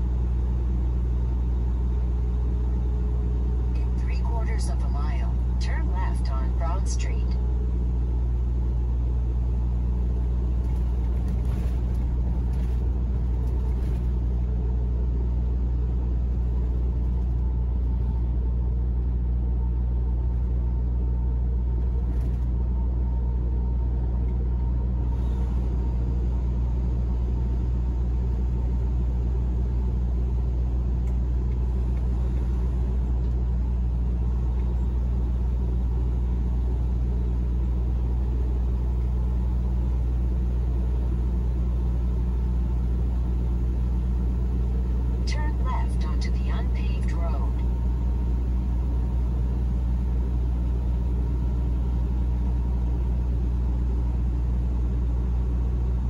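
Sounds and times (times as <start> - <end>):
truck engine and road drone: 0.0 - 56.0.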